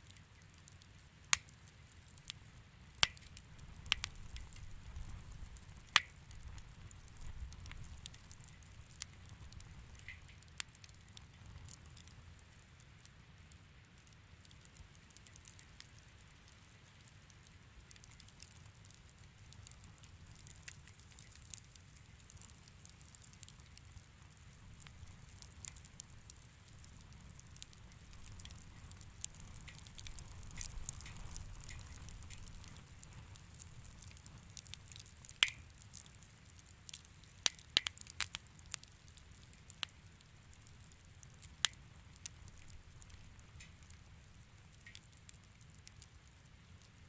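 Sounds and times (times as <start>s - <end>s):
low rumble of flames: 0.0s - 47.0s
wood fire crackling: 0.0s - 47.0s
sharp pops of fire: 0.1s - 2.4s, 3.0s - 12.1s, 17.4s - 46.1s.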